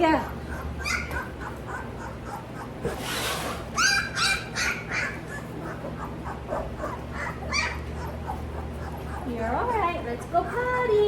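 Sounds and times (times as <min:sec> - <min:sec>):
puppies whimpering and yipping: 0:00.0 - 0:11.0.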